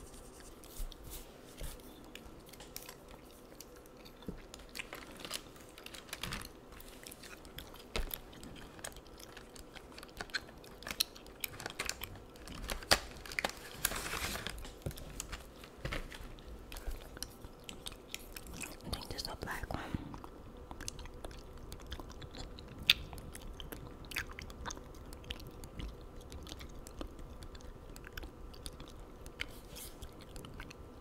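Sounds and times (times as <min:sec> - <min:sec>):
gum chewing: 0:01.8 - 0:12.9, 0:14.6 - 0:31.0.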